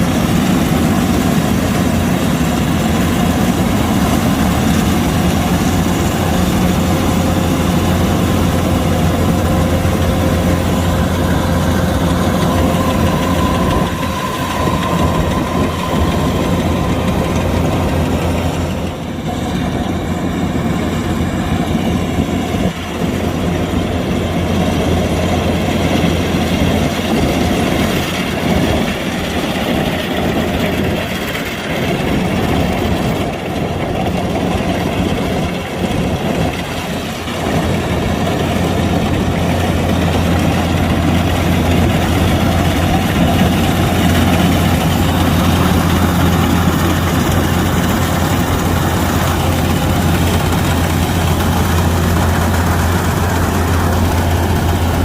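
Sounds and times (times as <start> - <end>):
combine harvester drone: 0.0 - 55.0
faint whine: 0.0 - 55.0.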